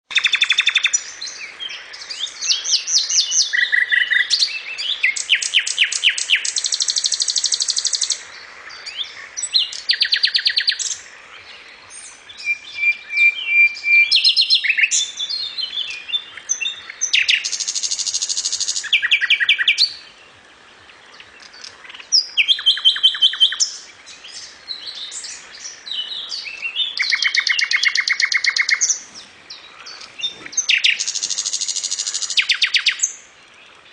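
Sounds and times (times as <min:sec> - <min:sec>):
nightingale singing: 0:00.1 - 0:33.9.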